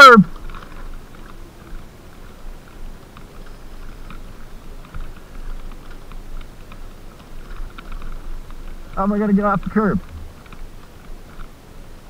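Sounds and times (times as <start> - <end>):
faint ticks and rustles: 0.0 - 12.0
wind rumble on microphone: 0.0 - 12.0.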